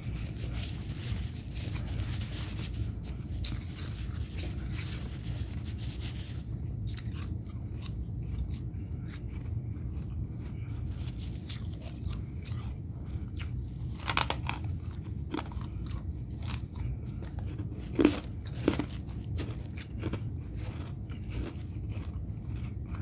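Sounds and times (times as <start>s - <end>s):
frost crunching as chewed: 0.0s - 23.0s.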